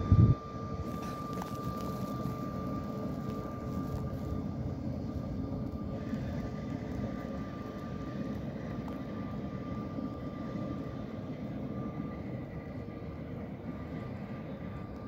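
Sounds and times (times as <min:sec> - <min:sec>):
faint high whine: 0:00.0 - 0:15.0
tram rumbling along track: 0:00.0 - 0:15.0.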